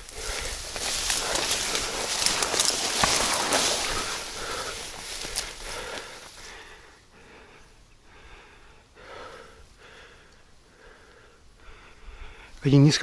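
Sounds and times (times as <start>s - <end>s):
man breathing hard: 0.0s - 12.6s.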